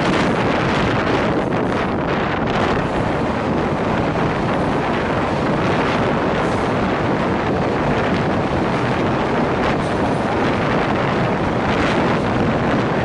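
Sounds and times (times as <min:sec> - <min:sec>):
passenger train running at speed: 0:00.0 - 0:13.0
wind buffeting microphone: 0:00.0 - 0:13.0.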